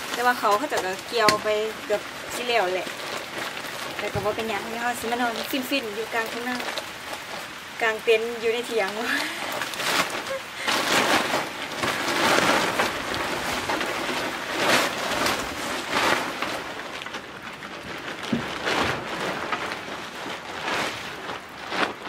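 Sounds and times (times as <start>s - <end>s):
plastic bag crinkling: 0.0s - 22.0s
tent fabric rustling: 0.0s - 22.0s.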